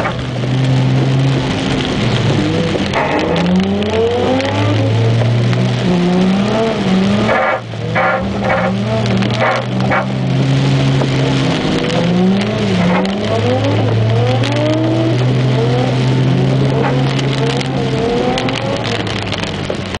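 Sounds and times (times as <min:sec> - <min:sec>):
low engine drone: 0:00.0 - 0:19.9
car engine revving hard: 0:00.0 - 0:20.0.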